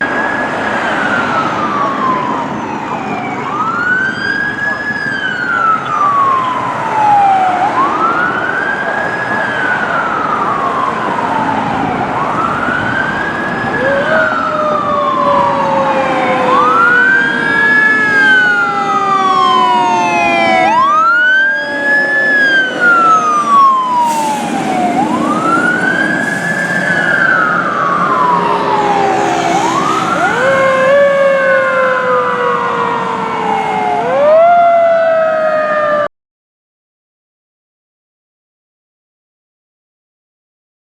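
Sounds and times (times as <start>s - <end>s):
fire engine siren wailing: 0.0s - 36.1s
lower siren tone: 0.0s - 36.1s.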